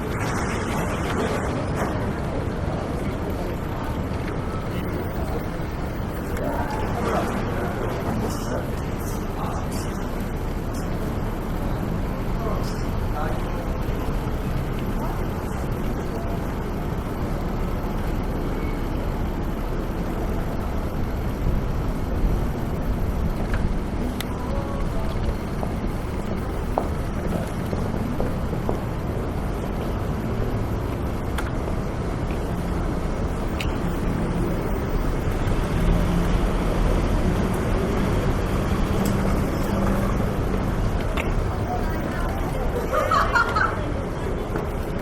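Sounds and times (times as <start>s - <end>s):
low rumble of traffic: 0.0s - 45.0s.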